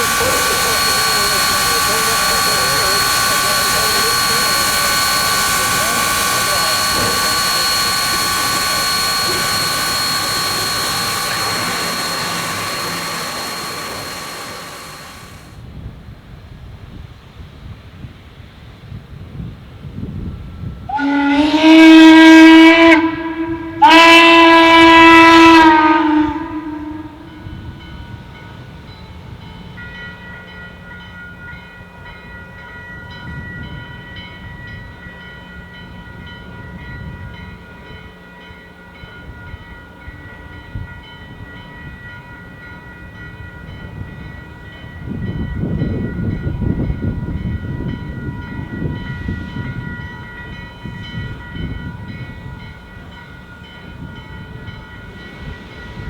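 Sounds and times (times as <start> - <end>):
steam locomotive chime whistle: 0.0 - 15.5, 20.8 - 56.0
train rumbling: 0.0 - 56.0.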